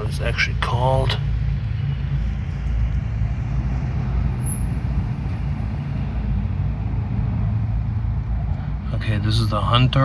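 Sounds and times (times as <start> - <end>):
steady low rumble with hum: 0.0 - 10.0.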